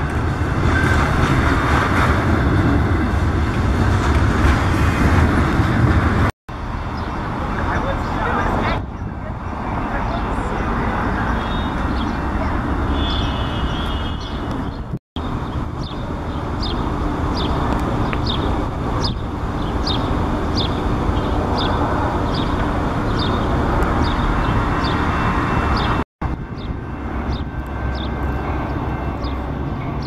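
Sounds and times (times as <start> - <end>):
diesel locomotive approaching: 0.0 - 30.0
train wheels rumbling on rail: 0.0 - 30.0.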